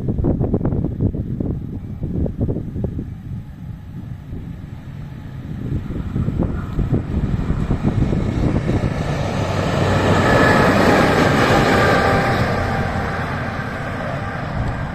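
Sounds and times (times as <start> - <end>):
train rumbling past: 0.0 - 14.9
wind buffeting microphone: 0.0 - 14.9.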